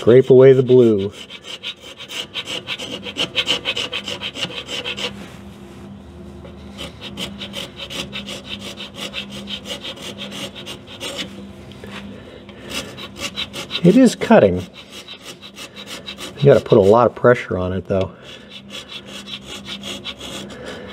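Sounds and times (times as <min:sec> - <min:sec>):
hand scraper scraping metal: 0:00.0 - 0:05.2, 0:06.5 - 0:11.4, 0:12.6 - 0:17.2, 0:18.2 - 0:20.9.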